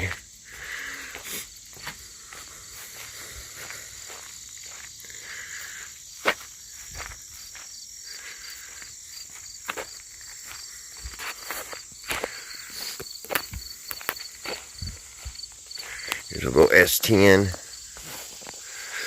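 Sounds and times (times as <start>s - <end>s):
footsteps crunching on rough ground: 0.0s - 19.0s
insects chirping in a trill: 0.0s - 19.0s.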